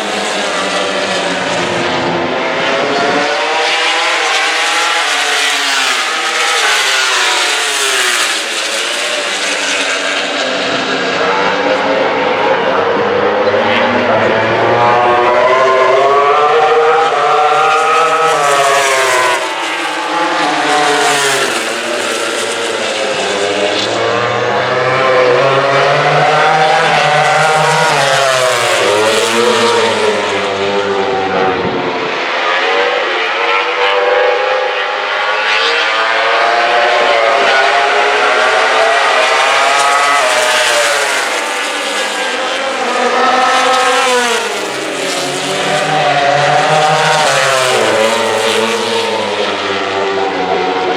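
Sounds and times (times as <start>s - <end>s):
racing motorcycles passing by: 0.0s - 50.9s.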